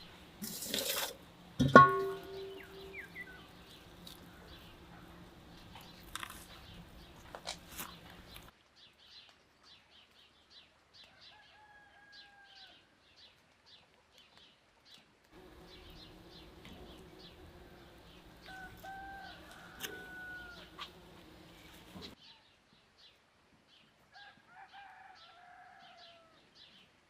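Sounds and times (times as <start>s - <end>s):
faint birds chirping: 2.0s - 27.0s.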